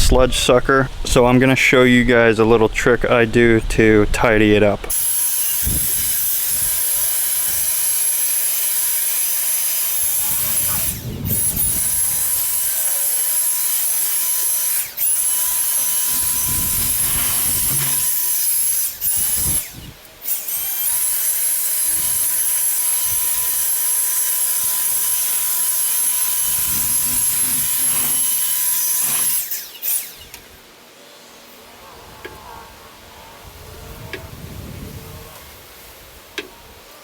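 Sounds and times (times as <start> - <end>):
leaf blower high whine: 4.9 - 35.7.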